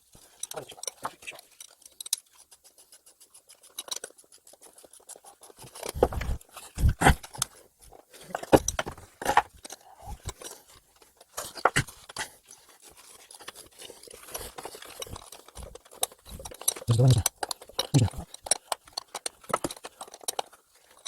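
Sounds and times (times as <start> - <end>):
clicking and scraping: 0.0 - 21.0.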